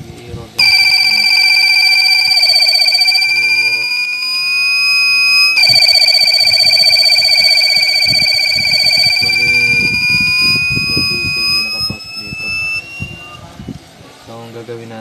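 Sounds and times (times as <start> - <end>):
alarm buzzer high-pitched tone: 0.6 - 13.4.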